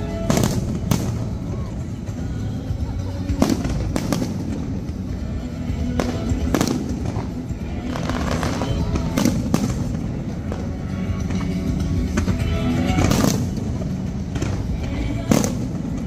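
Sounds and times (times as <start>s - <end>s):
background music: 0.0s - 16.0s
fireworks bursting with sharp bangs: 0.0s - 16.0s.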